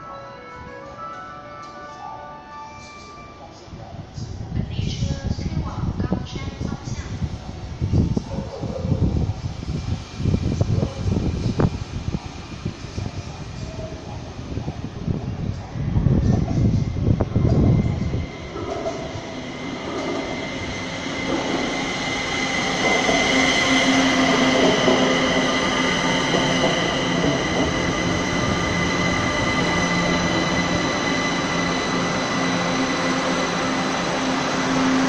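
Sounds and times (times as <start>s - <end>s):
metro train pulling in: 0.0s - 35.0s.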